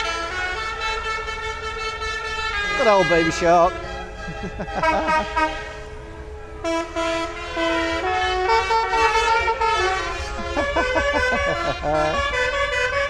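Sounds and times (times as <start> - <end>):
musical horn playing a tune: 0.0 - 13.0
passing vehicles rumbling: 0.0 - 13.0.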